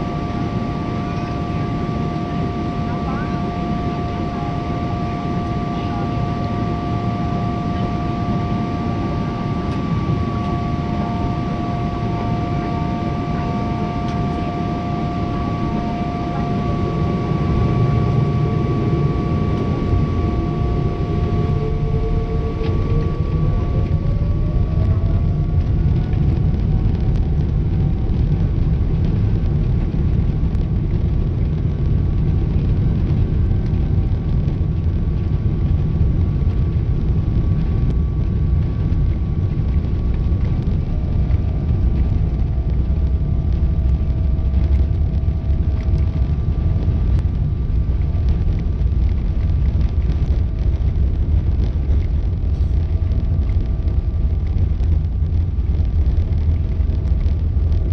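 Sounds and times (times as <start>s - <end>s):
jet engines rumbling and whining: 0.0s - 57.9s.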